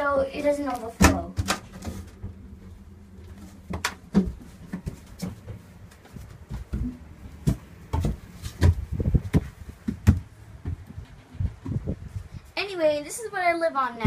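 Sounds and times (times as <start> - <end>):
low steady hum: 0.0 - 14.0
footsteps and handling knocks: 0.5 - 12.2.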